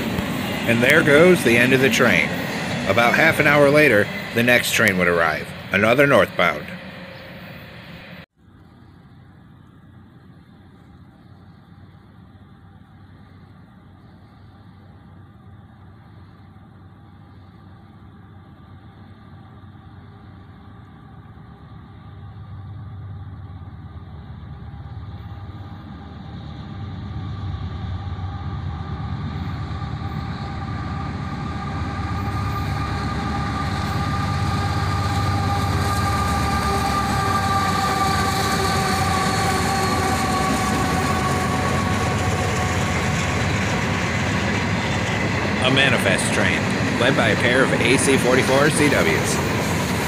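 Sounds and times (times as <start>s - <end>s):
diesel locomotives approaching: 0.0s - 50.0s.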